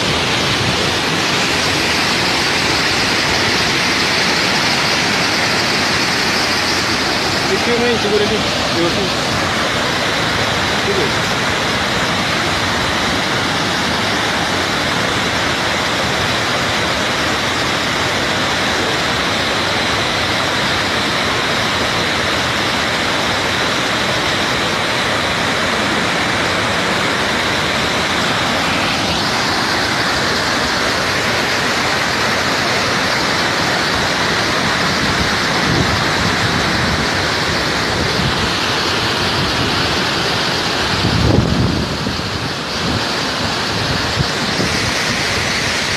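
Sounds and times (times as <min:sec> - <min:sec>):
waterfall rushing over rocks: 0:00.0 - 0:45.9.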